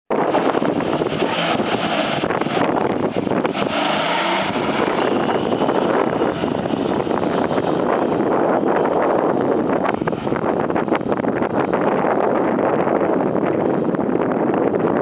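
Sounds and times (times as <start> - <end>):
wind buffeting microphone: 0.1 - 15.0
vehicle engine pulling away: 0.2 - 14.1.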